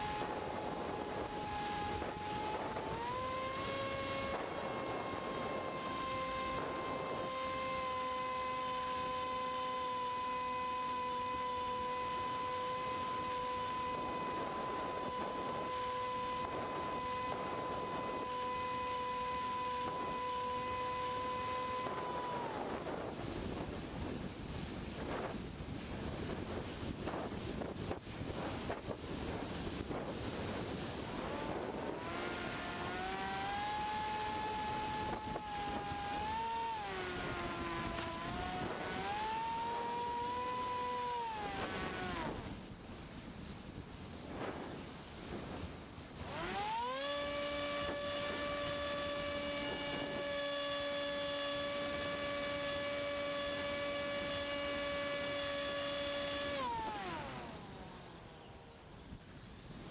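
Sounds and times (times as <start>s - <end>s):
model plane electric motor: 0.0s - 43.1s, 44.4s - 59.9s
wind rush: 0.0s - 58.4s.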